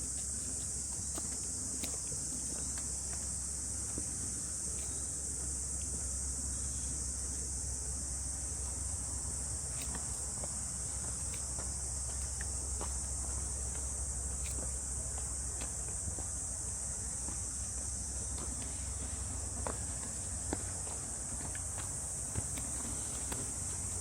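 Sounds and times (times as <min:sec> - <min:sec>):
cicada chorus drone: 0:00.0 - 0:24.0.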